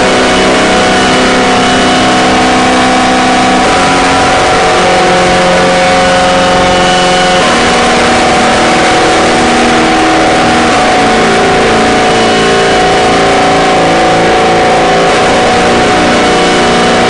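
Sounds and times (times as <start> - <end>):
harsh noise drone music: 0.0 - 17.0.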